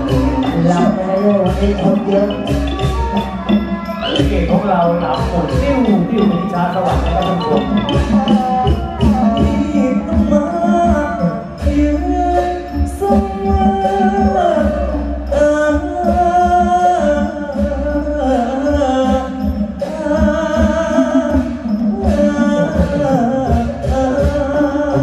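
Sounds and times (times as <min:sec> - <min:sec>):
band accompaniment: 0:00.0 - 0:25.0
low regular drum beat: 0:00.0 - 0:25.0
person singing into microphone: 0:00.0 - 0:25.0.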